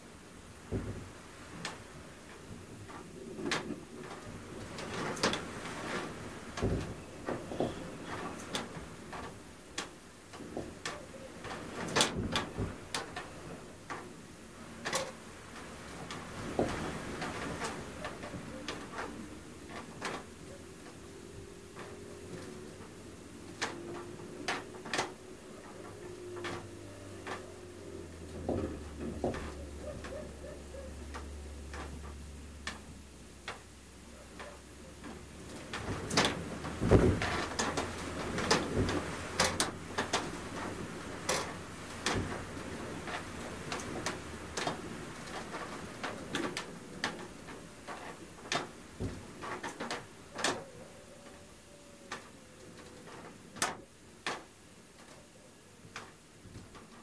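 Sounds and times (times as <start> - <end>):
window shutters knocking and rattling: 0.4 - 57.0.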